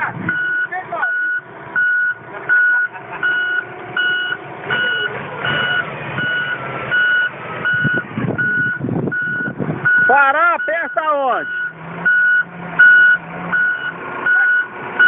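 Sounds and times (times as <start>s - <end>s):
reversing alarm beeping: 0.3s - 14.7s.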